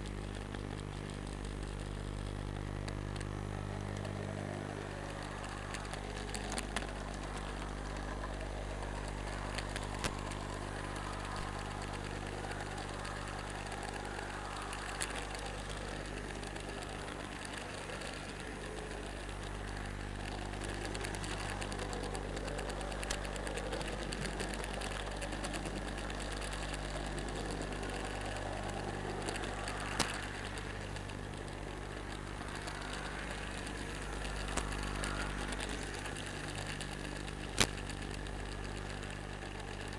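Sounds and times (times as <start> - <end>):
faint sharp clicks: 0.0 - 39.9
model train electric buzz: 0.0 - 39.9.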